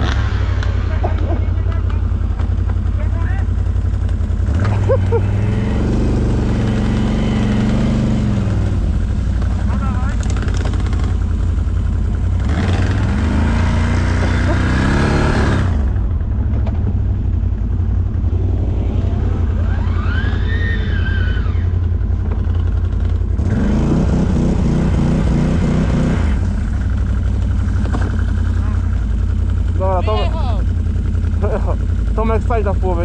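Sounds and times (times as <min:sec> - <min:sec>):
quad engine revving: 0:00.0 - 0:11.4, 0:12.0 - 0:16.6, 0:18.2 - 0:33.0.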